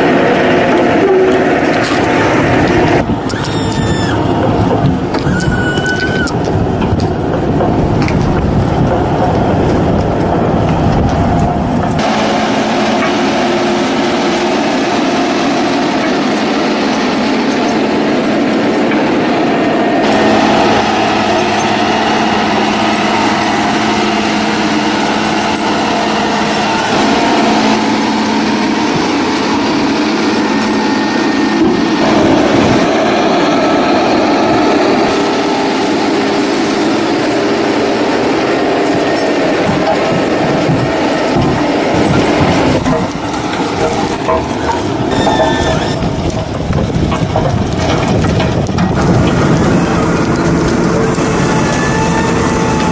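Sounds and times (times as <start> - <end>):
tractor engine under load: 0.0 - 52.9.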